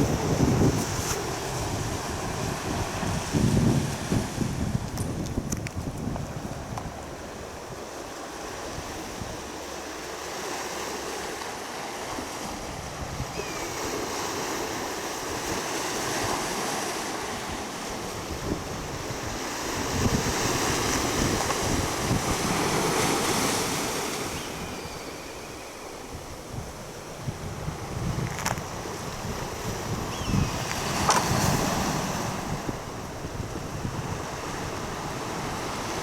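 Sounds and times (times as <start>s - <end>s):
wind on microphone: 0.0s - 9.6s, 12.0s - 36.0s
sea waves washing on shore: 0.0s - 36.0s.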